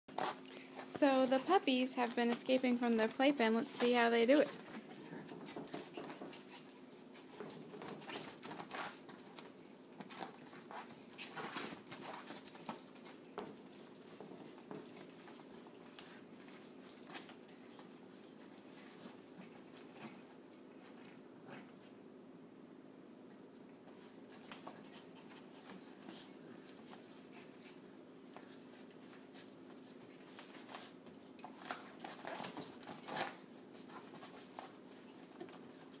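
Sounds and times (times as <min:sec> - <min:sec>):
puppies scratching fabric and mesh: 0:00.1 - 0:21.8, 0:23.9 - 0:36.0
faint steady hum: 0:00.1 - 0:36.0.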